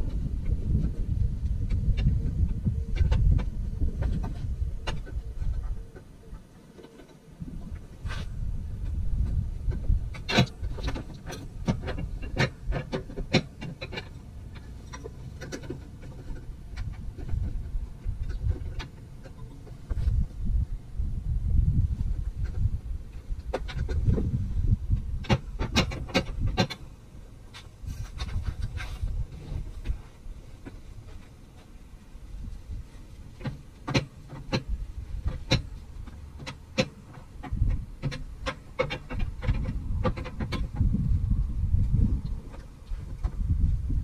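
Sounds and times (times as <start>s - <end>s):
low background rumble: 0.0s - 44.0s.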